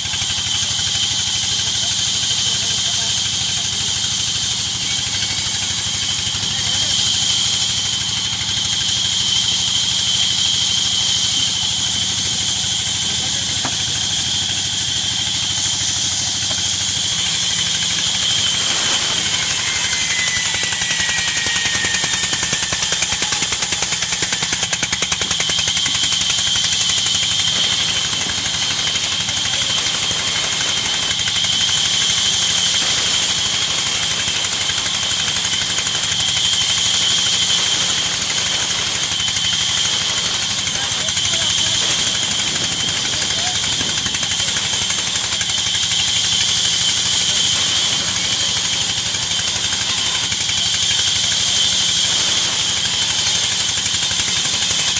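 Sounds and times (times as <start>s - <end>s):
band saw blade whine: 0.0s - 54.9s
machinery running: 0.0s - 54.9s.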